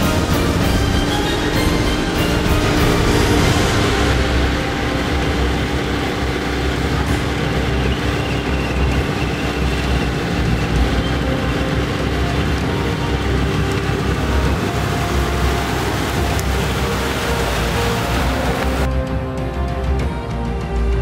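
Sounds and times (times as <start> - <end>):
tractor engine running under load: 0.0 - 18.9.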